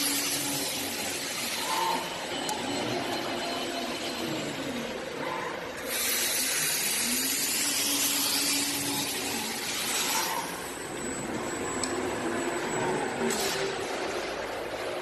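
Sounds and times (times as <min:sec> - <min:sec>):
laser cutter motor whine: 0:00.0 - 0:05.4, 0:06.1 - 0:14.2.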